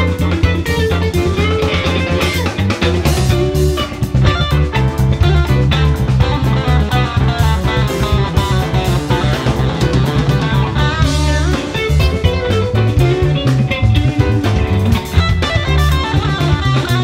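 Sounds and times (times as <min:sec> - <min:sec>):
live band playing instrumental: 0:00.0 - 0:17.0.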